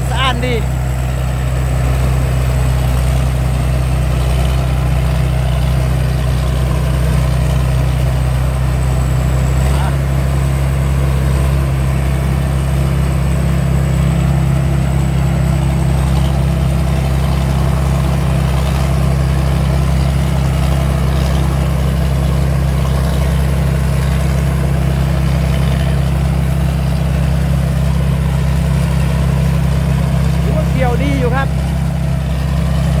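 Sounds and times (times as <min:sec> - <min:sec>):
combine harvester engine droning: 0:00.0 - 0:33.0.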